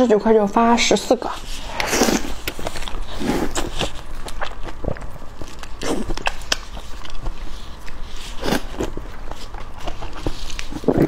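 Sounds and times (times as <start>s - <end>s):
biting and chewing mouth sounds: 1.5s - 11.0s.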